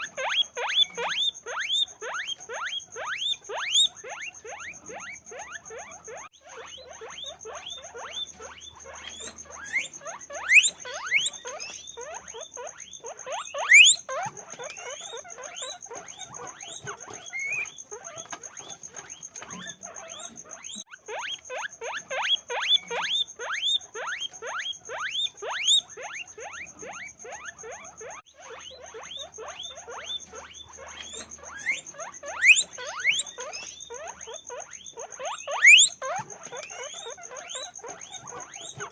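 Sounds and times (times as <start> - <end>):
guinea pigs squeaking: 0.0 - 38.9.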